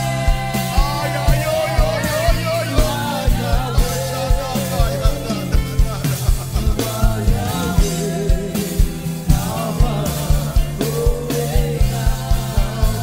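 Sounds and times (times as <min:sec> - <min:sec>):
gospel band with singers: 0:00.0 - 0:13.0.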